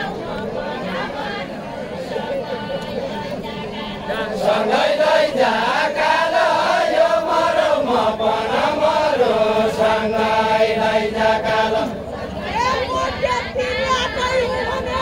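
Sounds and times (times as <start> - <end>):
men singing in unison: 0.0 - 15.0.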